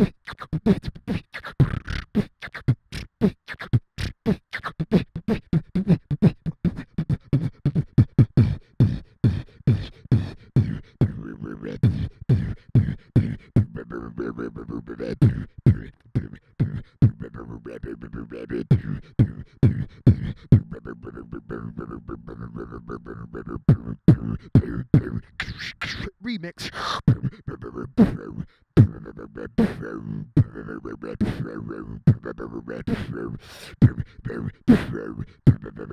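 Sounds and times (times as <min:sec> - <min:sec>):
beatboxing mouth percussion: 0:00.0 - 0:35.9.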